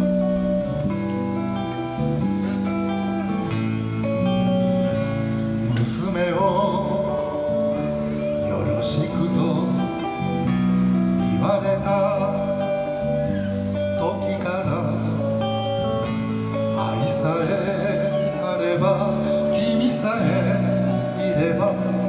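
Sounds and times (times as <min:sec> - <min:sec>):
acoustic guitar: 0:00.0 - 0:22.0
electric bass low notes: 0:00.0 - 0:22.0.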